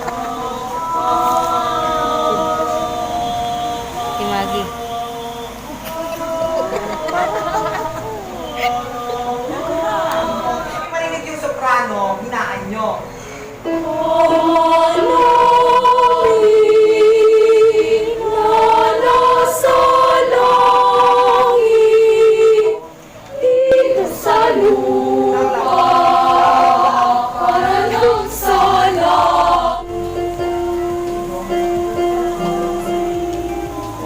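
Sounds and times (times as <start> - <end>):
choir singing in parts: 0.0 - 11.4, 13.5 - 34.0.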